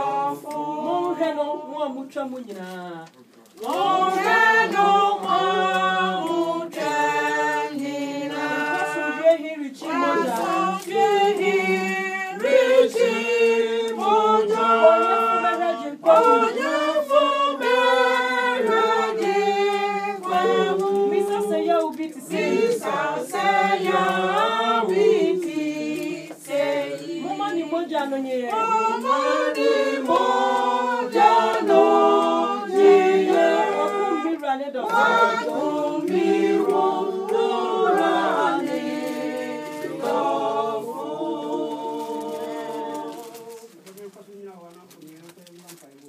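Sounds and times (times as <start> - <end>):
congregation singing a hymn: 0.0 - 2.3, 3.6 - 43.8.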